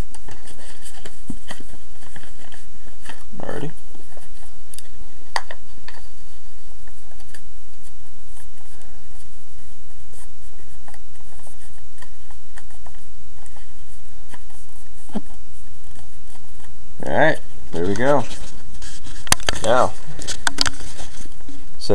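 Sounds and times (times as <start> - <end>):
low hum: 0.0 - 21.9
paper and card handling: 0.0 - 21.9.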